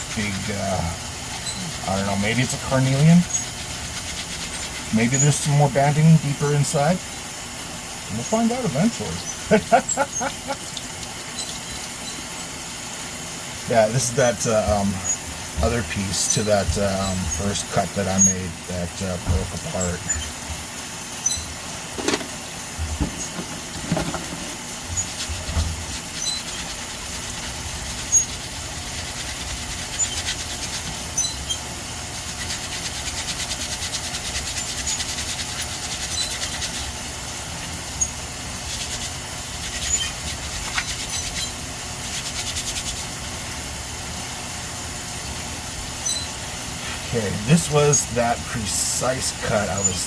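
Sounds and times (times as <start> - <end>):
water running: 0.0 - 50.0.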